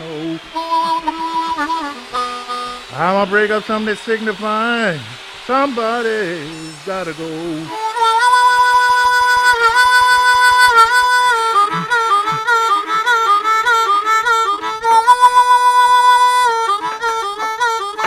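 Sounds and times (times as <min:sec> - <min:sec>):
blues harmonica playing: 0:00.0 - 0:18.0.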